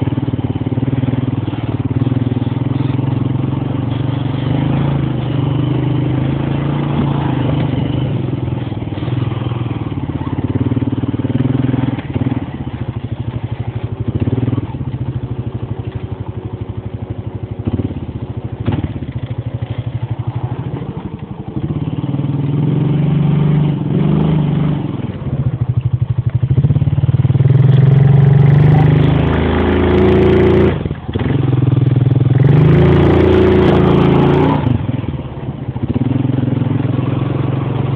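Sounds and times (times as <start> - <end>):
quad bike engine running: 0.0 - 37.9.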